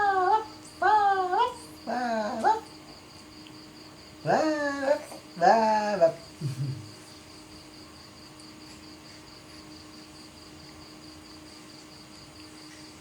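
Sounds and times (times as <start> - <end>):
cricket chirping: 0.0 - 13.0
faint steady hum: 0.0 - 13.0.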